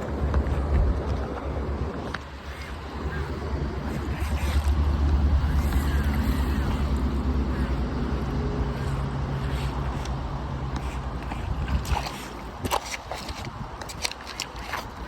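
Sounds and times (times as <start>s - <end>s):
low hum: 0.0s - 15.0s
radio-controlled boat motor: 1.9s - 15.0s.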